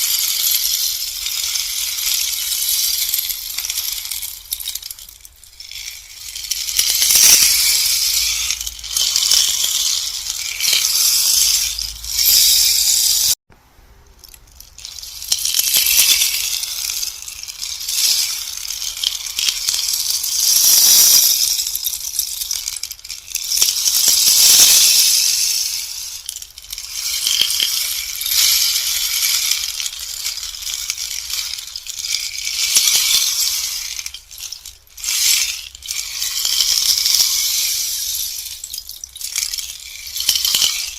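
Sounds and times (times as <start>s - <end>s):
rainstick pellets pattering: 0.0s - 13.4s, 14.1s - 40.9s.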